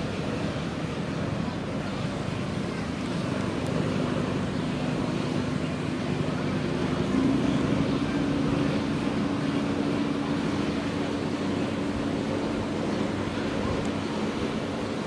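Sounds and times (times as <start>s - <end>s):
engine drone: 0.0s - 15.0s
wind and water rushing: 0.0s - 15.0s.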